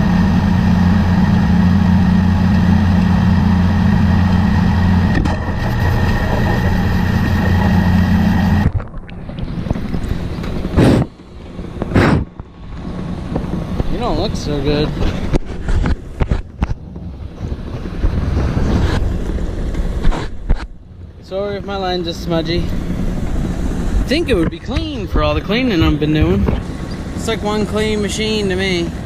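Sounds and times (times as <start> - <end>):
pressure washer engine drone: 0.0 - 20.1, 20.8 - 29.0.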